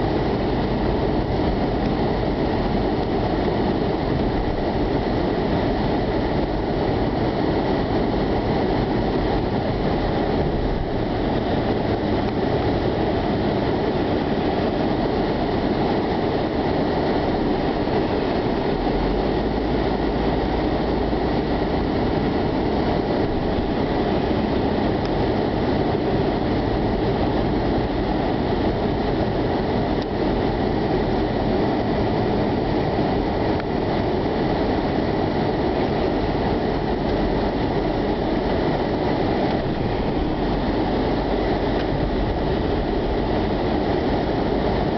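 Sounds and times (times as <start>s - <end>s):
blizzard wind blowing: 0.0s - 44.9s.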